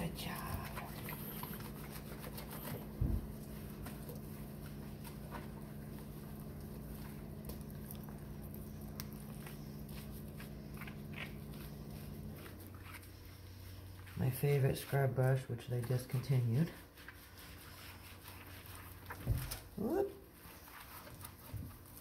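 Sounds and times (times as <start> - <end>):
low electrical hum: 0.0 - 22.0
soft squishing and patting: 0.0 - 22.0.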